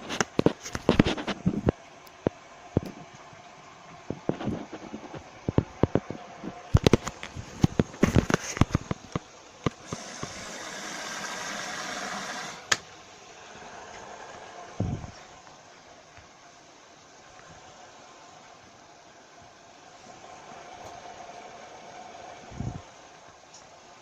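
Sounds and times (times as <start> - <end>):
washing machine spin hiss: 0.0 - 24.0.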